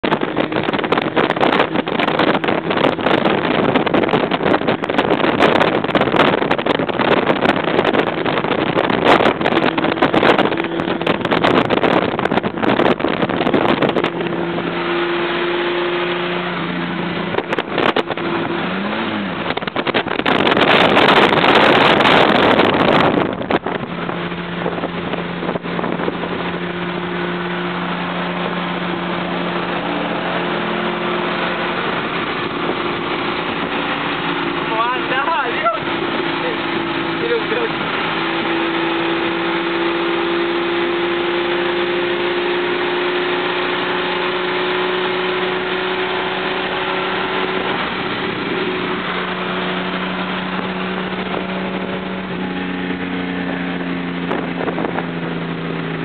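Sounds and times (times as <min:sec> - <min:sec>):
car engine: 0:00.0 - 0:56.0
road noise: 0:00.0 - 0:56.0
wind noise: 0:00.0 - 0:56.0.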